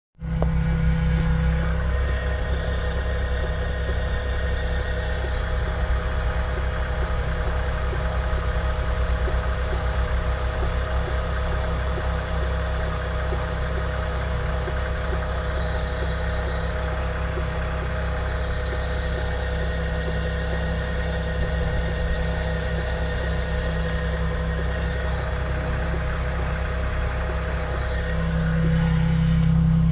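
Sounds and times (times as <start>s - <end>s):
car engine idling: 0.2s - 29.9s.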